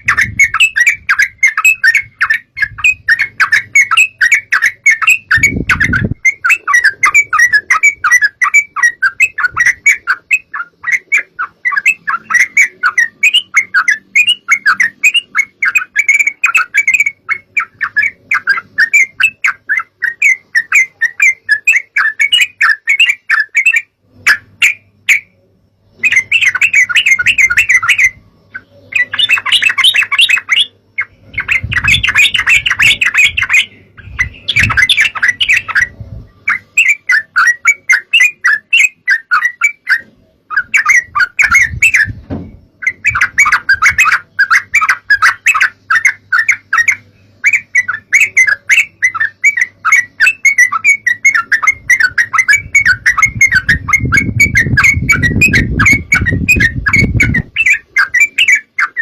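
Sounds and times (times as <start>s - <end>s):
bird chattering: 0.0s - 25.4s, 26.0s - 59.0s.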